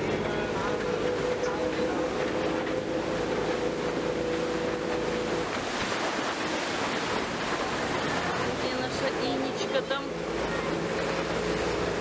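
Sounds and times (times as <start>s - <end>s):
motorboat engine hum: 0.0s - 12.0s
rush of churning wake: 0.0s - 12.0s
wind: 0.0s - 12.0s.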